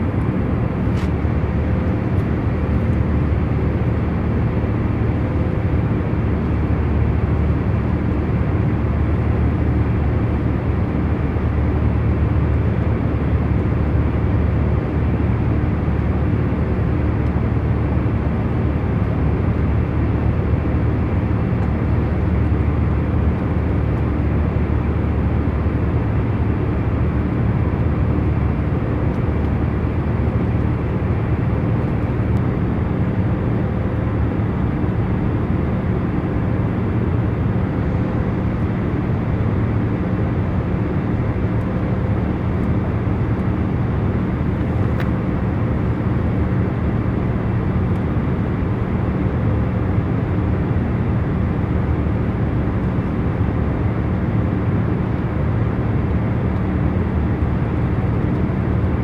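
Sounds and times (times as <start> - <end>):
jet engine and airflow hum: 0.0 - 59.0.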